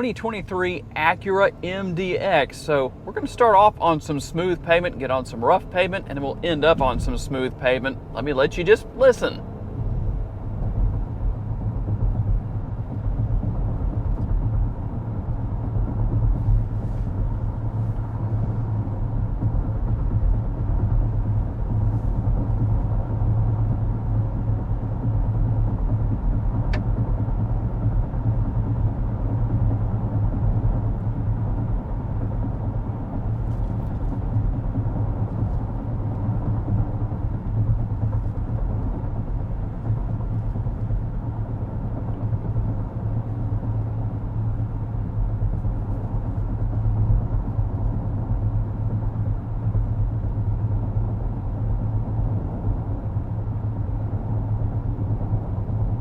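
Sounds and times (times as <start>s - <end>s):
road and tyre noise in car: 0.0s - 56.0s.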